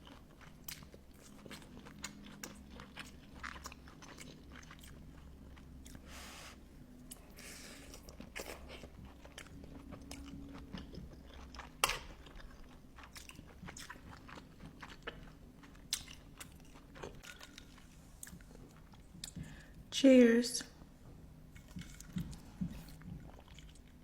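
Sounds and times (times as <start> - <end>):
person chewing crunchy food: 0.0 - 19.7, 21.5 - 24.0.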